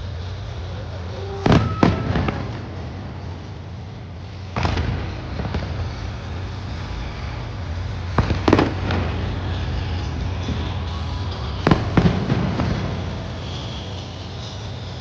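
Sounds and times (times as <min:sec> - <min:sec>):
fireworks rumble and crackle: 0:00.0 - 0:15.0
fireworks bangs: 0:01.2 - 0:15.0.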